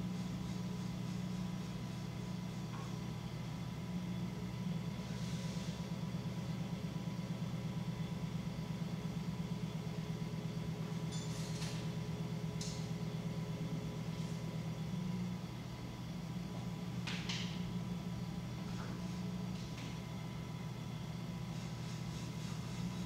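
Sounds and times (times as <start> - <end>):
potter's wheel humming: 0.0 - 23.0.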